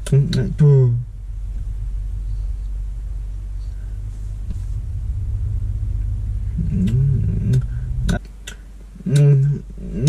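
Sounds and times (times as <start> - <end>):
low rumble inside car: 0.0 - 10.0.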